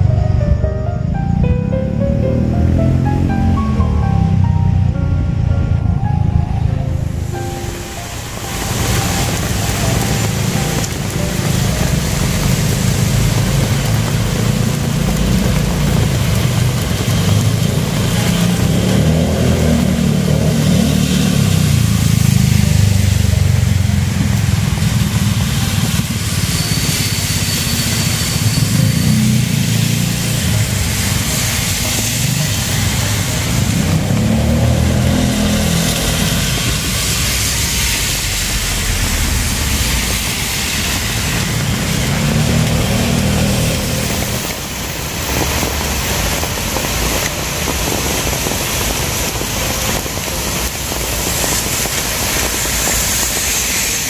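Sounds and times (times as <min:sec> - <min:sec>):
vehicles rumbling past: 0:00.0 - 0:53.0
hiss of tyres on wet road: 0:07.2 - 0:54.0.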